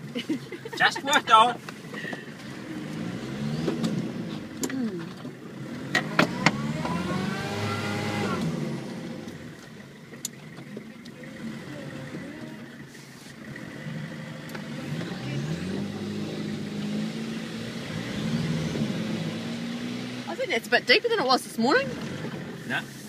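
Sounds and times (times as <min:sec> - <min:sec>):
off-road engine revving: 0:00.0 - 0:23.0.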